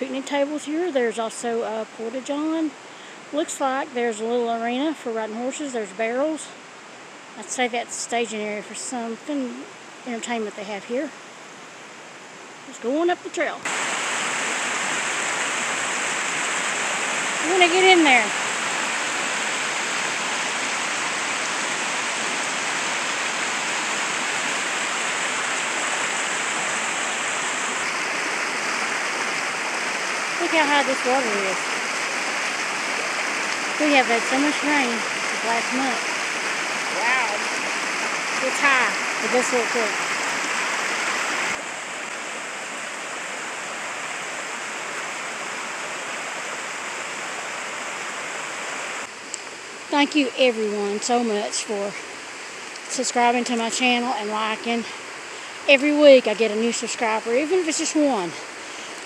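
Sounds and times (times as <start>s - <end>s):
creek rushing over rocks: 0.0s - 59.0s.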